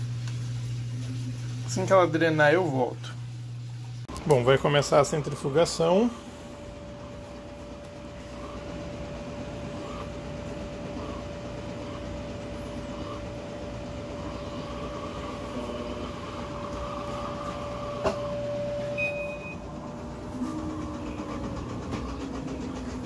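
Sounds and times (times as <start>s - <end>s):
washing machine drum spinning: 0.0s - 23.0s
washing machine hum: 0.0s - 23.0s.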